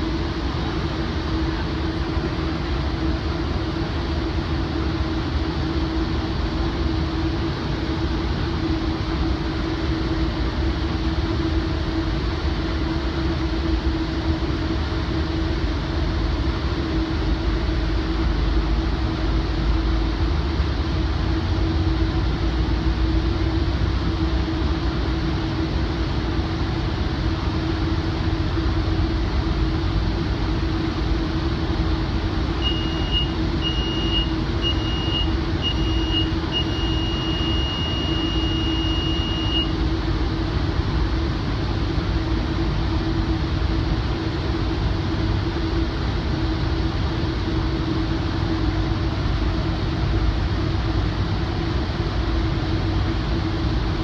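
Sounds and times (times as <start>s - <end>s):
steady hum: 0.0s - 54.0s
train rumble and rail noise: 0.0s - 54.0s.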